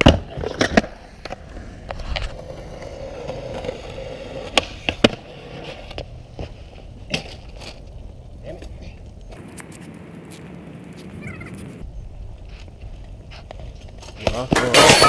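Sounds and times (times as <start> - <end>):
skateboard wheels rolling on concrete: 0.0 - 15.0.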